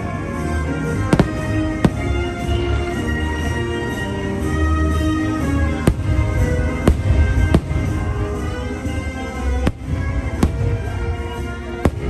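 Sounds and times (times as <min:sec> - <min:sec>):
fireworks bursting with sharp bangs: 0:00.0 - 0:12.0
orchestral music: 0:00.0 - 0:12.0.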